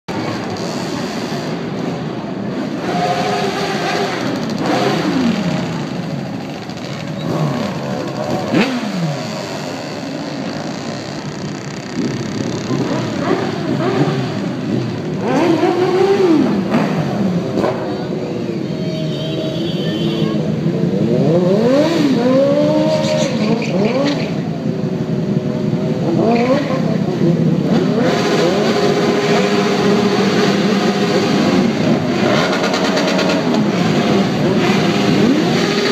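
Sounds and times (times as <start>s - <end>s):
motorcycle engines revving: 0.1s - 35.9s
motorcycles idling: 0.1s - 35.9s.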